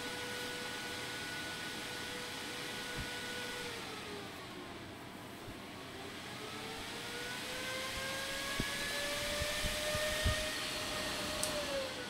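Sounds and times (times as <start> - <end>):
server fan whining: 0.0 - 12.0.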